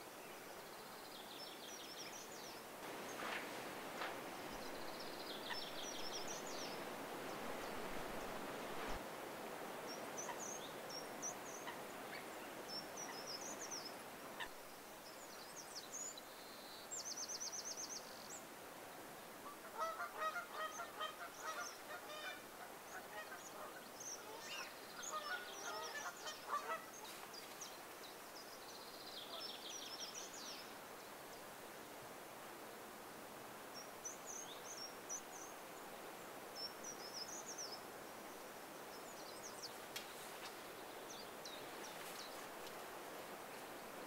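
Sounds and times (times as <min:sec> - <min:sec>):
faint outdoor hiss: 0:00.0 - 0:44.0.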